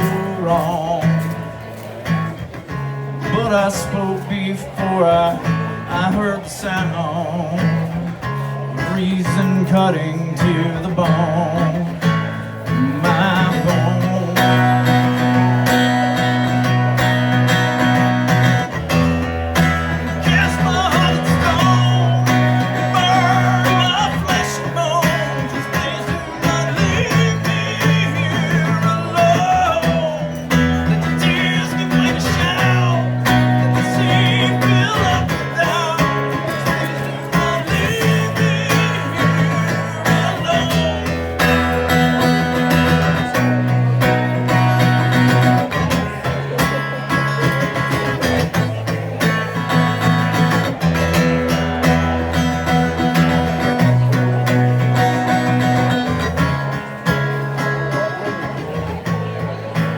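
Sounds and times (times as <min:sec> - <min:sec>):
guitar chords: 0:00.0 - 0:59.9.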